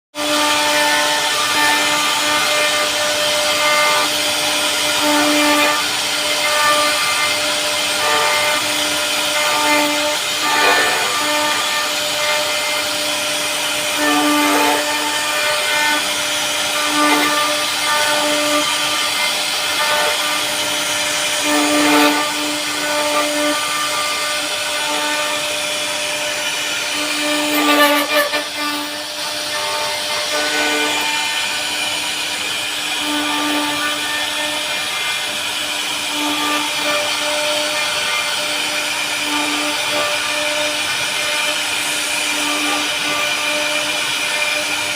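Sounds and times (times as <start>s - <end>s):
router spindle carving wood: 0.1s - 44.9s
cutting rasp: 0.2s - 44.9s.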